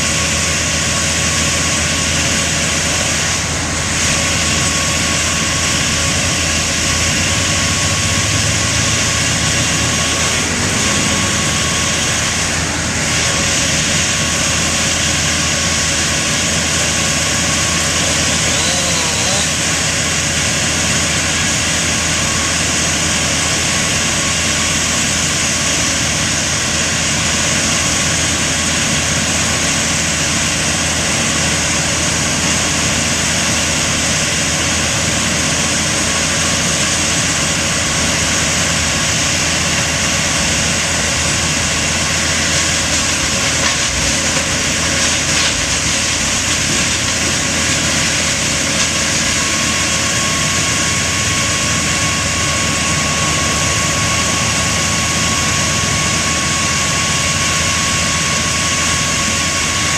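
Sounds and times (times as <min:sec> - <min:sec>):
large engine running: 0:00.0 - 0:59.9.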